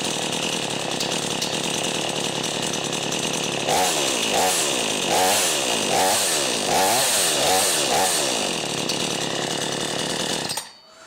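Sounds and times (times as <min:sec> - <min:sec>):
chainsaw idling and revving: 0:00.0 - 0:10.7.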